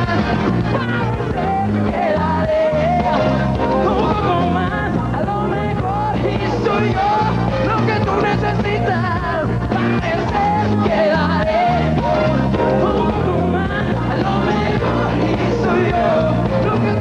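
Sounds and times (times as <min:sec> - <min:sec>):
live band playing disco-pop: 0:00.0 - 0:17.0
male lead vocal: 0:00.0 - 0:17.0.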